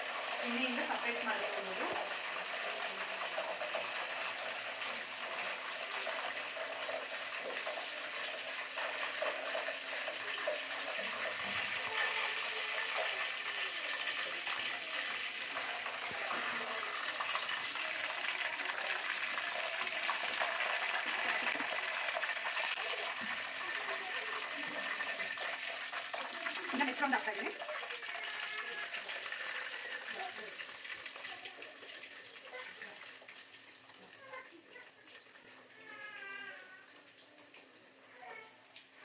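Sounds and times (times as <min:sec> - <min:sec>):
chicken deep-frying in hot oil: 0:00.0 - 0:39.0.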